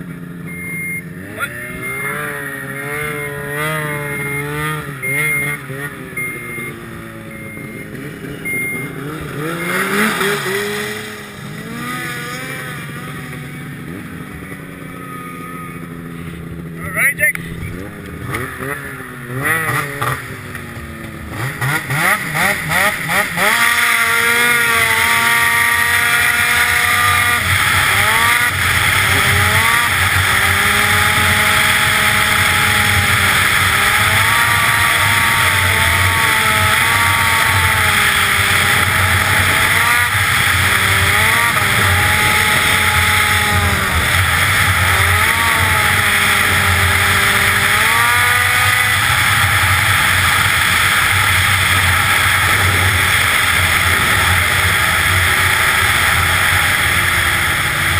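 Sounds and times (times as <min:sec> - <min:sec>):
snowmobile engine revving high: 0:00.0 - 0:57.9.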